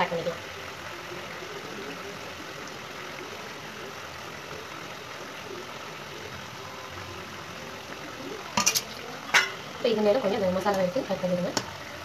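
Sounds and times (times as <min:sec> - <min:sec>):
gravy simmering in a pan: 0:00.0 - 0:12.0.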